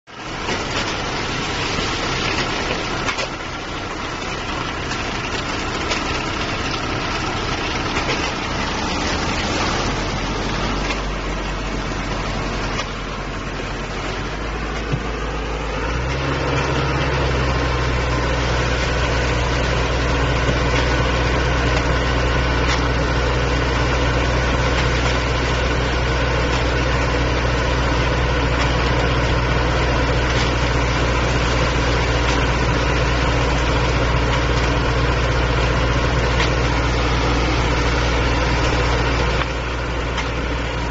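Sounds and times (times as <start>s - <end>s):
diesel truck engine running: 0.1s - 40.9s.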